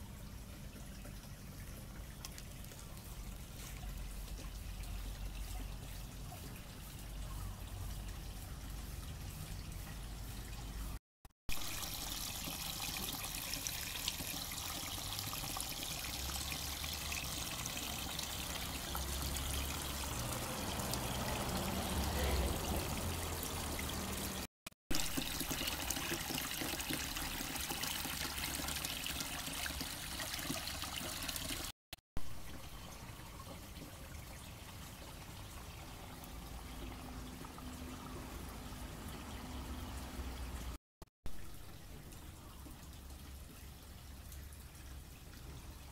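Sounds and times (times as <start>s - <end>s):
water trickling: 0.0s - 31.7s, 32.3s - 45.9s.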